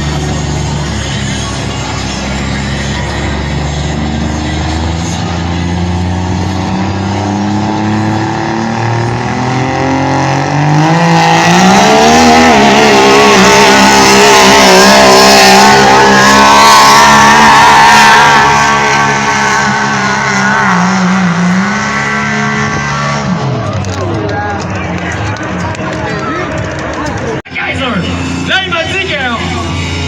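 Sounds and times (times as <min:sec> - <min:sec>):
engine at full throttle: 0:00.0 - 0:30.0.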